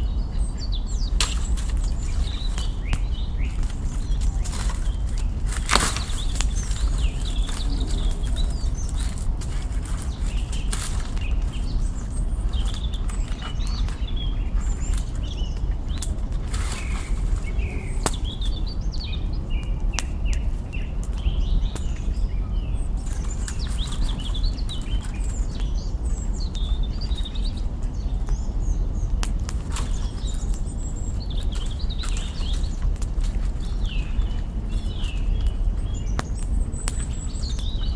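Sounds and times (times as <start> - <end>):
small birds chirping: 0.0 - 37.9
campfire crackling: 0.4 - 37.9
burning twigs popping: 0.6 - 37.9.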